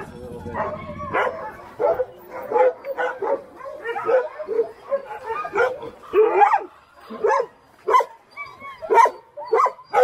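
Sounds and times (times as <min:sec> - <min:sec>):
dogs barking and yipping: 0:00.0 - 0:10.0.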